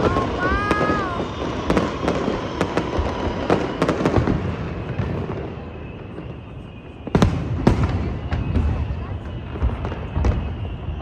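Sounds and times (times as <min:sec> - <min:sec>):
fireworks bangs and crackle: 0:00.0 - 0:11.0.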